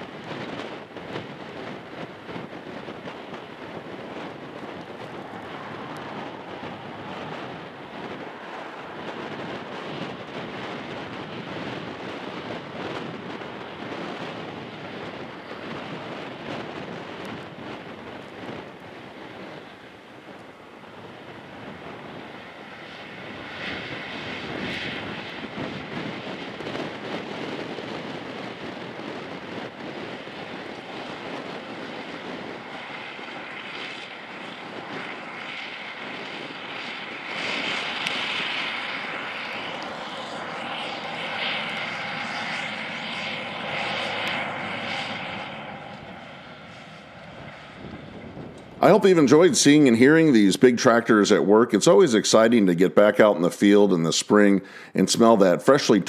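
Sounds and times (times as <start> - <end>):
high-pitched whine and rattle: 0.0 - 49.5.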